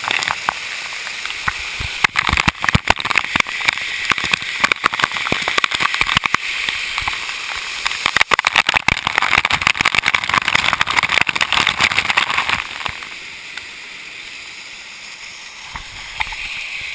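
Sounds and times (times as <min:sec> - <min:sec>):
waterfall pouring and splashing: 0:00.0 - 0:16.9.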